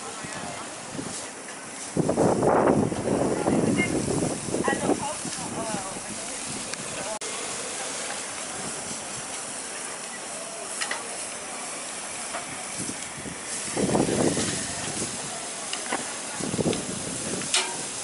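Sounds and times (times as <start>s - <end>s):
chicken sizzling on grill: 0.0s - 18.0s.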